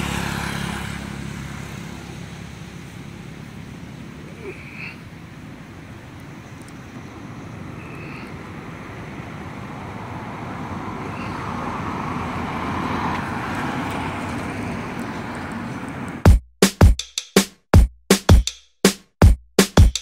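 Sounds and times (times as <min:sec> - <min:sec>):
outdoor background noise: 0:00.0 - 0:16.2.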